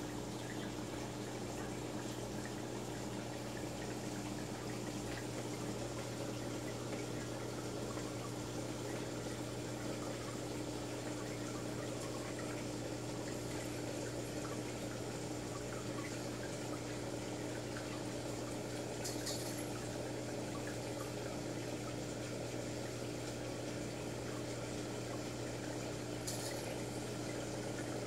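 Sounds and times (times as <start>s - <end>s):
aquarium filter hum: 0.0s - 28.0s
trickling bubbling water: 0.0s - 28.0s.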